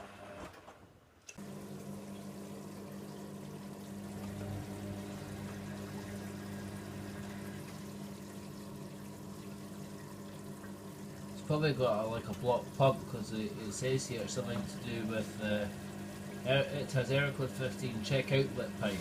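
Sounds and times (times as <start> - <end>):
constant machine hum: 1.4 - 19.0
water rushing through washing machine: 1.4 - 19.0.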